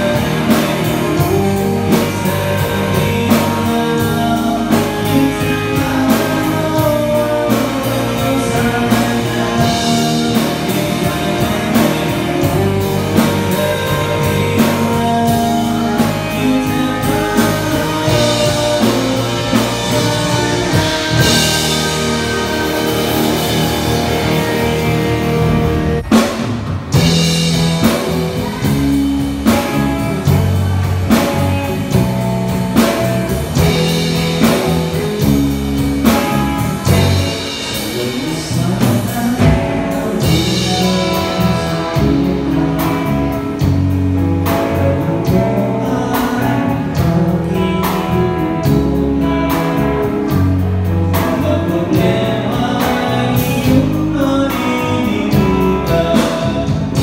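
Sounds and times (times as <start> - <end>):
drum kit: 0.0 - 57.0
electric bass: 0.0 - 57.0
electric guitar: 0.0 - 57.0
man singing lead vocal: 0.0 - 57.0.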